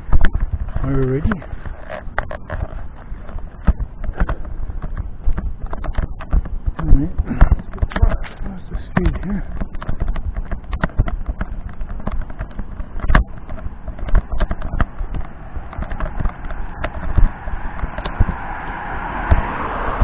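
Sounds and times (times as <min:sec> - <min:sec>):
footsteps: 0:00.0 - 0:20.0
recorder handling noise: 0:00.0 - 0:20.0.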